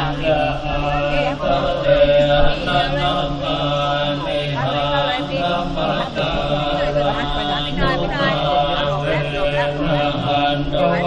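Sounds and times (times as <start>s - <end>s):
voices chanting in monotone: 0.0s - 11.0s.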